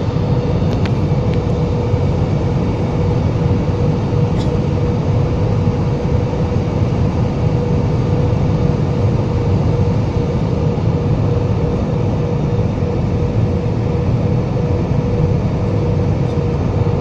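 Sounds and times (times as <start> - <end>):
constant cabin hum: 0.0 - 17.0
jet engine and airflow roar: 0.0 - 17.0.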